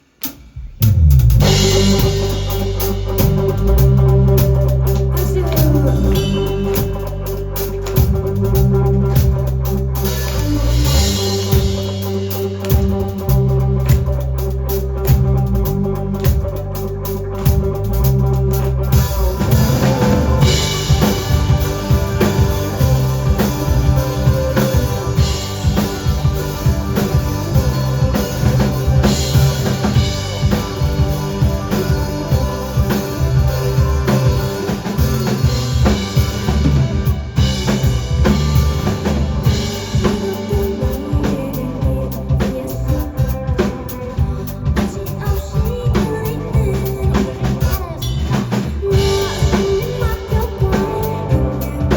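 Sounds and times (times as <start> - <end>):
drum kit beat: 0.0 - 51.9
bass guitar: 0.4 - 51.9
organ-like keyboard chords: 1.4 - 47.5.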